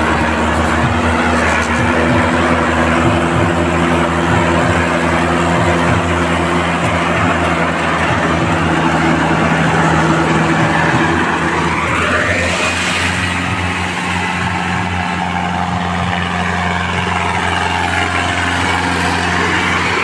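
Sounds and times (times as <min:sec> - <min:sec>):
road and wind noise: 0:00.0 - 0:20.0
tractor diesel engine running: 0:00.0 - 0:20.0.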